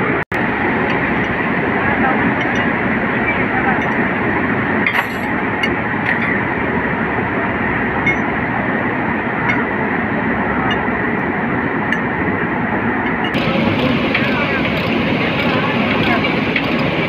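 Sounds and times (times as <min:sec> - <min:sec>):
loud background noise: 0:00.0 - 0:17.0.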